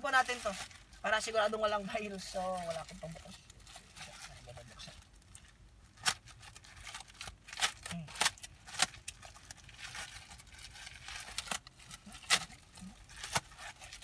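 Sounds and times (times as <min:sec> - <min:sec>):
plastic packaging tearing: 0:00.0 - 0:14.0.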